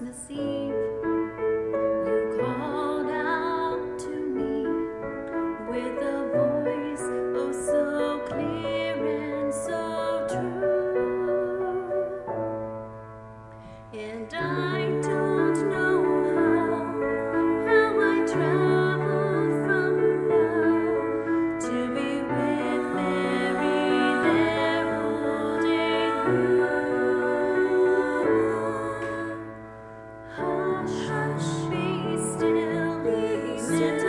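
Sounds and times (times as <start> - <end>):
slow gentle piano music: 0.0 - 34.0.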